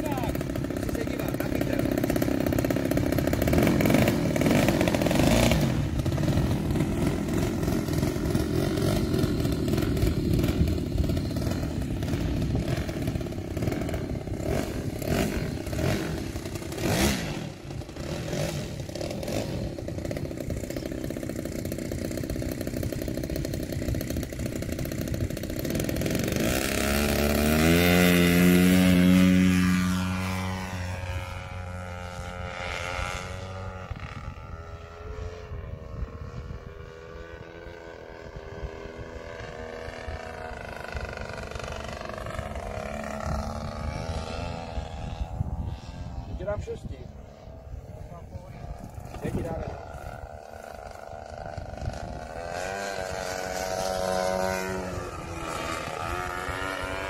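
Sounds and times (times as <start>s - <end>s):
model airplane engine running: 0.0s - 57.0s.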